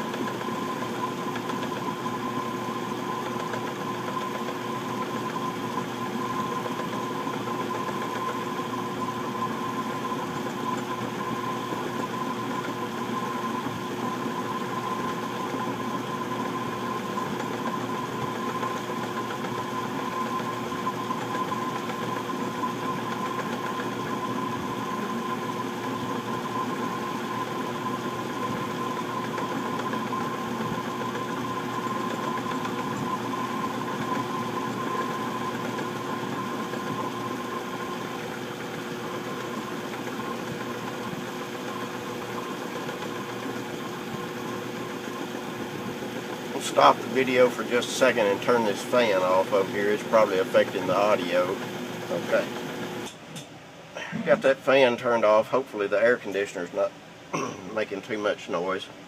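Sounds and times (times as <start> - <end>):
metal lathe running: 0.0 - 53.2
shop fan: 0.0 - 59.0
steady whine: 0.0 - 59.0.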